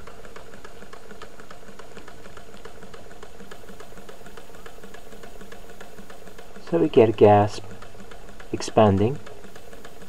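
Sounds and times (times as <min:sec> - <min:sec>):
small engine ticking: 0:00.0 - 0:10.0.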